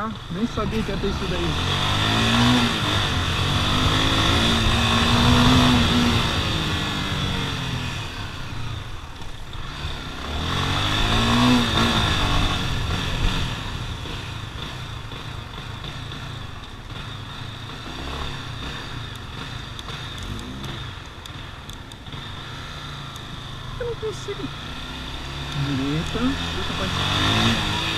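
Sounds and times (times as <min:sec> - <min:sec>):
motorcycle engine revving: 0:00.0 - 0:27.9
motorcycle engines running: 0:00.0 - 0:27.9.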